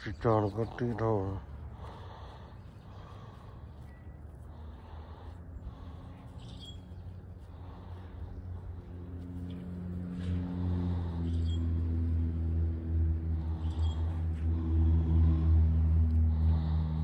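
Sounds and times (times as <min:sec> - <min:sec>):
passing vehicle engine drone: 0:00.0 - 0:17.0.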